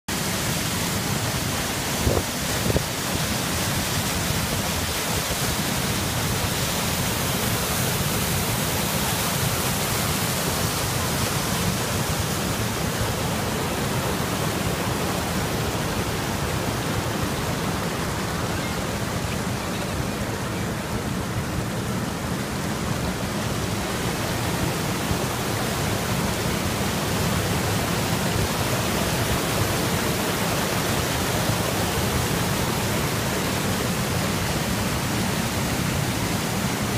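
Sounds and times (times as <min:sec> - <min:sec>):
river water rushing over rocks: 0:00.1 - 0:36.9.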